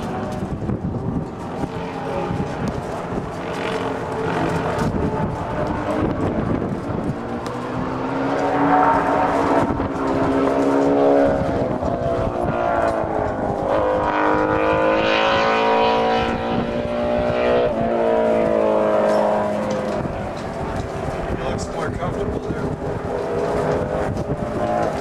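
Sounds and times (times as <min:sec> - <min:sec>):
racing motorcycle engine: 0:00.0 - 0:25.0.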